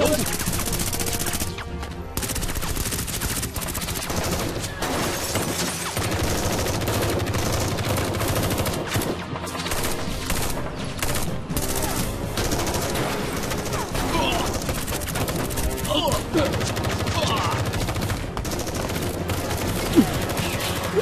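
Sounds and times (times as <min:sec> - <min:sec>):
rapid gunfire: 0:00.0 - 0:21.0.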